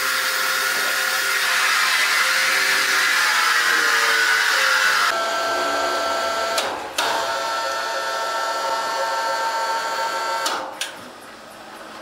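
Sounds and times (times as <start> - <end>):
sawmill machinery whining: 0.0 - 10.6.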